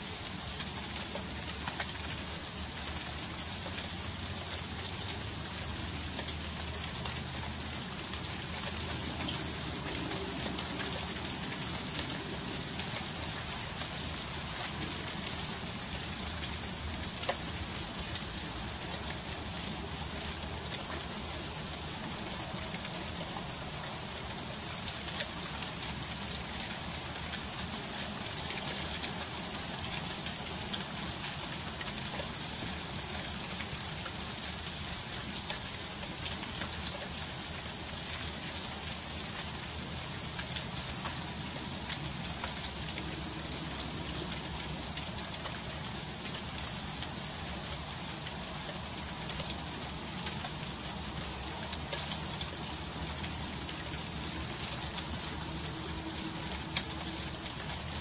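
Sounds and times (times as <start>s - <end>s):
freezing rain ticking on ice: 0.0s - 58.0s.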